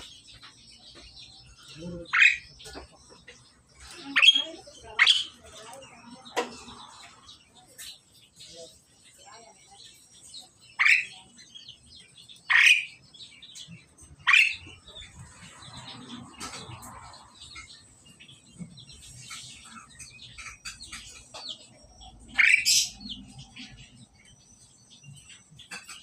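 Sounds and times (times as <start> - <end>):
soft bird chirps: 0.0 - 26.0
starlings calling loudly: 0.0 - 26.0.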